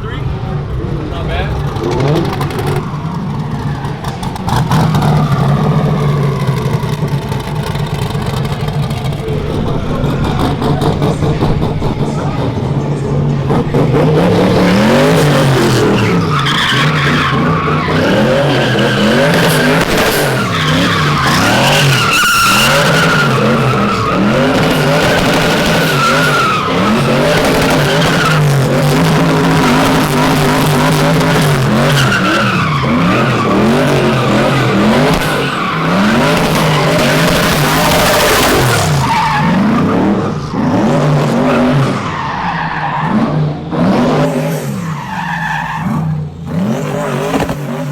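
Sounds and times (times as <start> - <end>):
car engine revving: 0.0 - 47.9
tyres squealing: 1.7 - 47.6.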